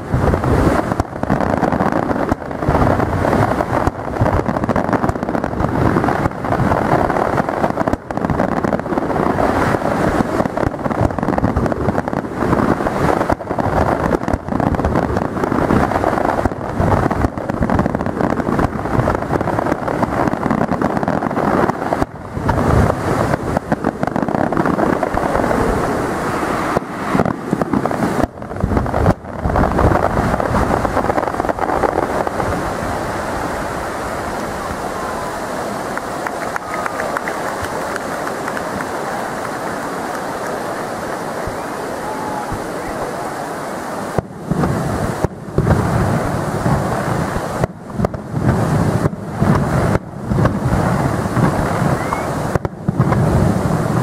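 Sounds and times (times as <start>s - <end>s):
fireworks bursting and crackling: 0.0s - 54.0s
steady noise: 0.0s - 54.0s.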